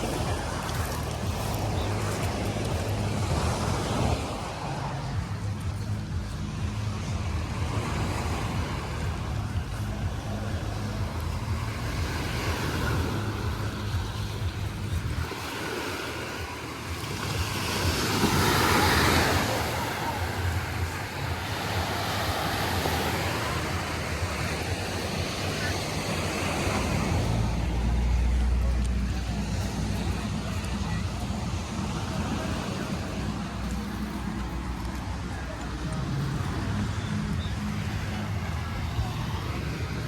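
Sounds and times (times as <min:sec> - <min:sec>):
waves washing onto beach: 0:00.0 - 0:40.0
wind rumble on microphone: 0:00.0 - 0:40.0.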